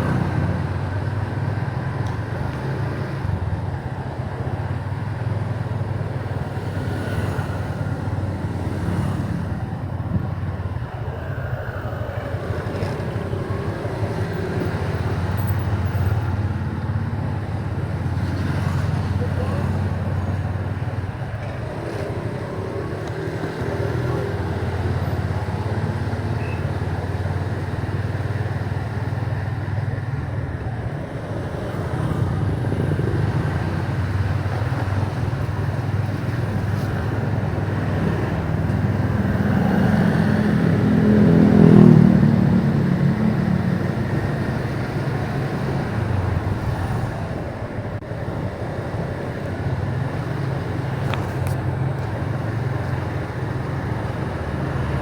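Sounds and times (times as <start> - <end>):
motorcycle engine: 0.0 - 55.0
road noise: 0.0 - 55.0.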